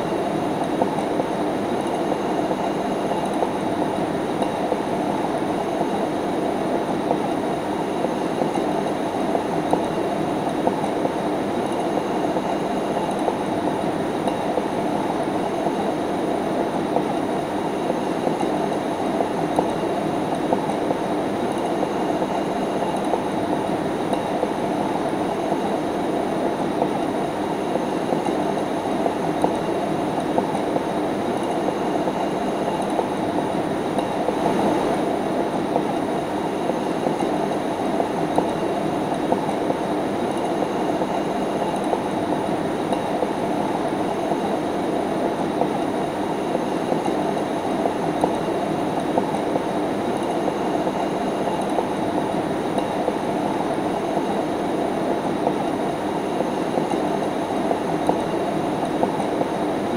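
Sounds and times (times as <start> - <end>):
ceiling fan running: 0.0 - 59.9.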